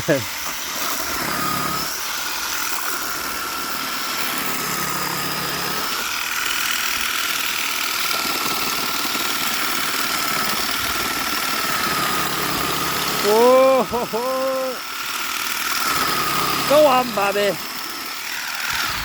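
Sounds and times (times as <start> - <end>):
electric motor whining: 0.0 - 7.9, 10.5 - 19.0.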